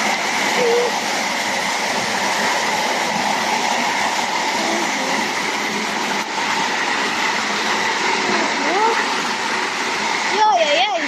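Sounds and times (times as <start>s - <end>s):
heavy hail falling: 0.0s - 11.0s.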